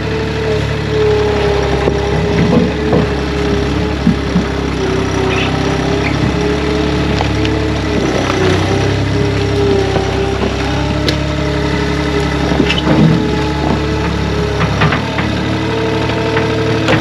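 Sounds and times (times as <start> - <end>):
chainsaw engine running: 0.0 - 17.0
wood cracking: 1.7 - 17.0.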